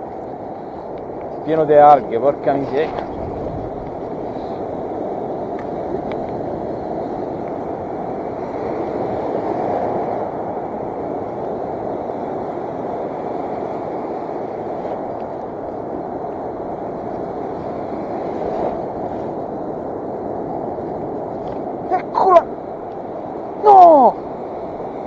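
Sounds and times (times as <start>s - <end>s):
heavy surf on beach: 0.0s - 25.0s
wind on microphone: 0.0s - 25.0s.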